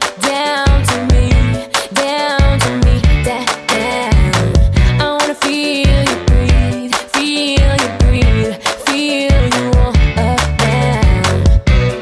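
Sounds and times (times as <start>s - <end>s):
song with steady drum beat: 0.0s - 12.0s.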